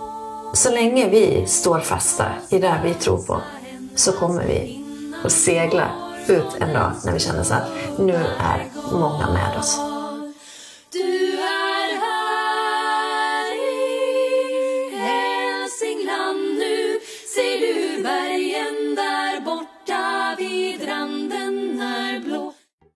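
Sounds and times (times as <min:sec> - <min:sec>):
voices singing in harmony: 0:00.0 - 0:22.8.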